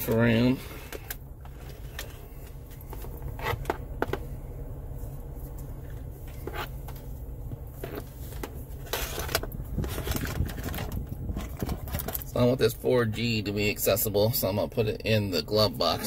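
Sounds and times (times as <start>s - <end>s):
car engine idling hum: 0.0s - 16.0s.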